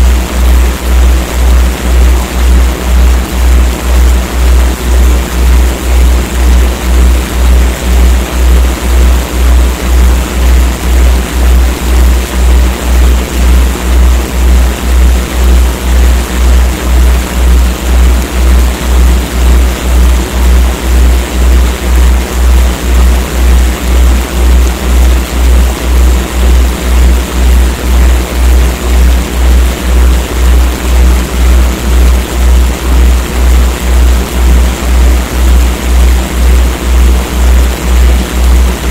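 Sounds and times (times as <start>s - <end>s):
deep pulsing electronic hum: 0.0s - 38.9s
steady noise hiss: 0.0s - 38.9s.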